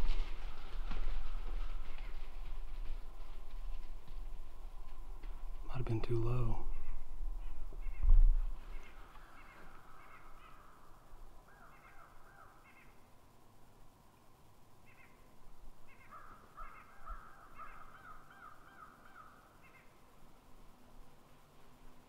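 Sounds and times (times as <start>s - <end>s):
faint bird calls: 0.0s - 4.0s, 4.8s - 13.2s, 14.8s - 20.2s.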